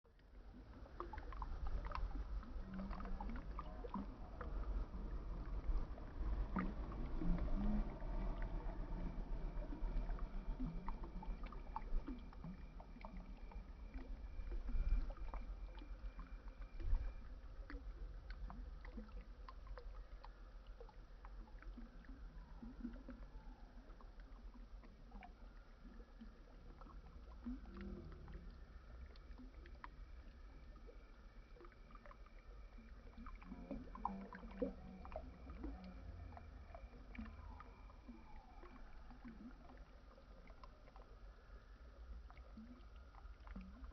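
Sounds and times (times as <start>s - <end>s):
small splashes and drips: 0.0s - 43.9s
water rumbling with splashes: 0.0s - 43.9s.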